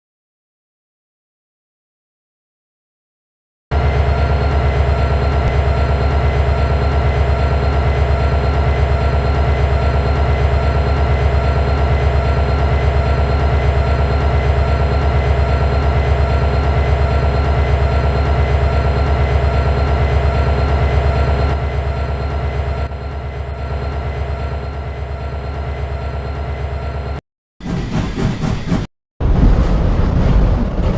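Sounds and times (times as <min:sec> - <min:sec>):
train running hum: 0:03.7 - 0:28.9.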